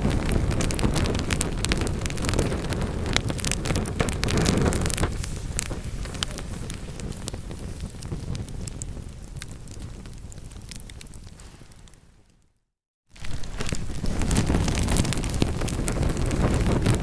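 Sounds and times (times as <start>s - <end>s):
low rumble of flames: 0.0s - 12.4s, 13.1s - 17.0s
wood fire crackling and popping: 0.0s - 12.4s, 13.1s - 17.0s.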